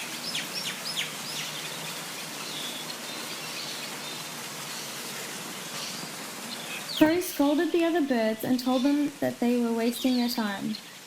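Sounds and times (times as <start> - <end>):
birds chirping: 0.0 - 11.0
steady hiss: 0.0 - 11.0.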